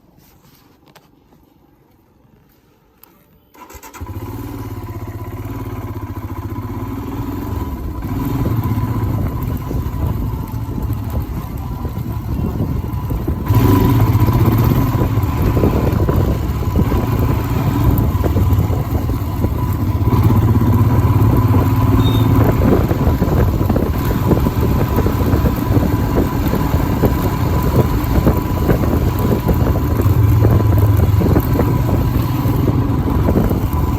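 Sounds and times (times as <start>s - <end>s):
motorcycle engine starting and running: 3.5s - 33.9s.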